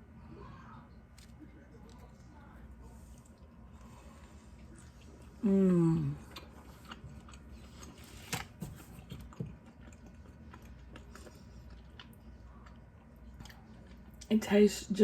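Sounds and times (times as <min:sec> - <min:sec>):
person chewing biscuit: 0:01.1 - 0:14.3.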